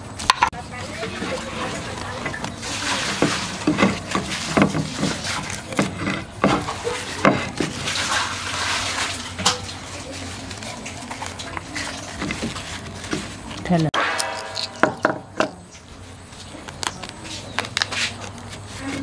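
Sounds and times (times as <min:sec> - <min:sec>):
leaf rustling and crackling: 0:00.1 - 0:14.8, 0:15.6 - 0:19.0.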